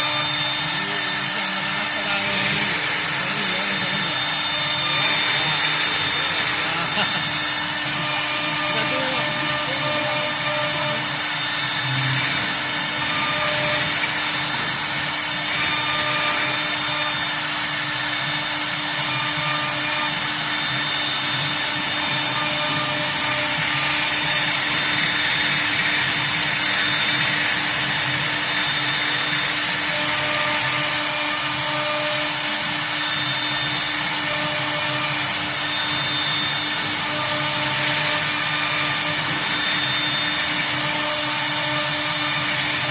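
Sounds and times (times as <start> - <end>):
cnc router motor whine: 0.0 - 42.9.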